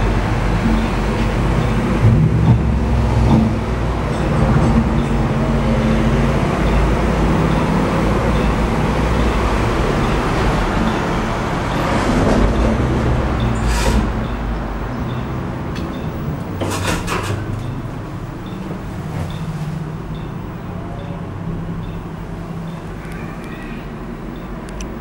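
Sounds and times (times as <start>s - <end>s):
elevator drive humming: 0.0s - 25.0s.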